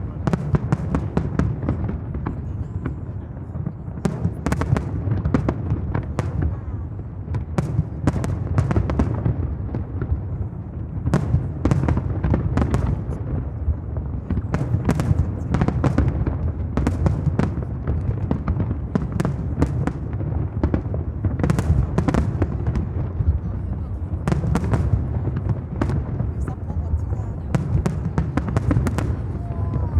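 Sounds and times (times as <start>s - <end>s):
firework bangs and crackles: 0.0s - 29.9s
rumble of firework bursts: 0.0s - 29.9s.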